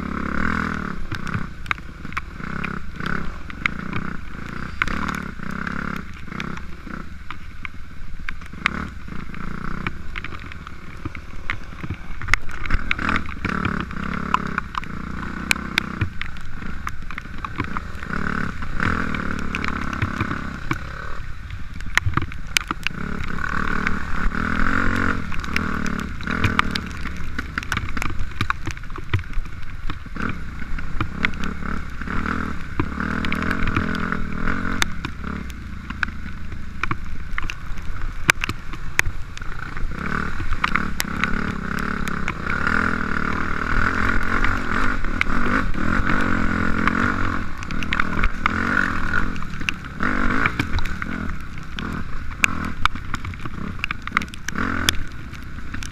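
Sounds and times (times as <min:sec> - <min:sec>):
dirt bike engine revving: 0:00.0 - 0:07.2, 0:08.4 - 0:21.3, 0:22.8 - 0:28.1, 0:30.0 - 0:36.9, 0:39.4 - 0:55.9.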